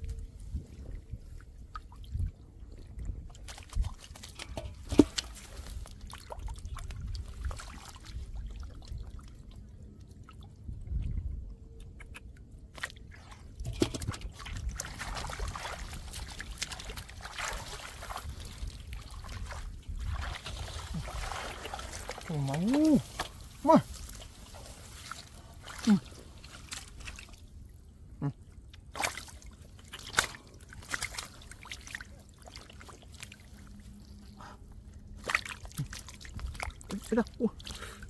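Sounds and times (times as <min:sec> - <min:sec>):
mud and water squelching: 0:00.1 - 0:38.0.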